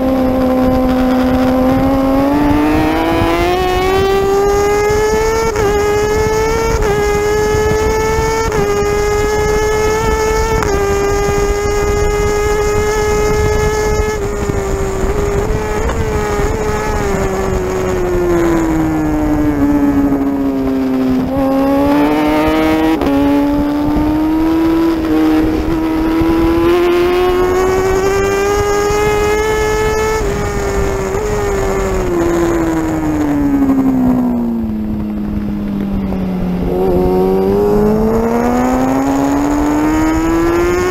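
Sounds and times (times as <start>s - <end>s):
motorcycle engine at high revs: 0.0s - 40.9s
wind rush: 0.0s - 40.9s.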